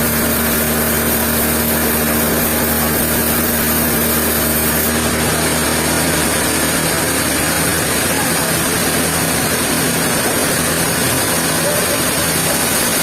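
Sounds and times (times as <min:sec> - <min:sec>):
sawmill machinery drone: 0:00.0 - 0:13.0
steady hum: 0:00.0 - 0:13.0.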